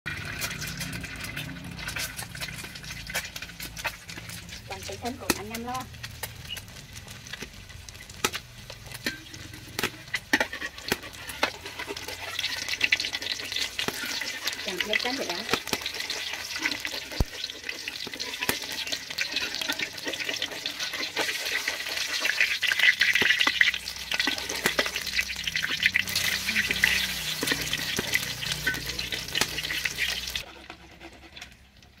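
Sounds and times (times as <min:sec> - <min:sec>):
metal spatula scraping wok: 0:00.1 - 0:31.8
egg sizzling in hot oil: 0:00.1 - 0:32.0.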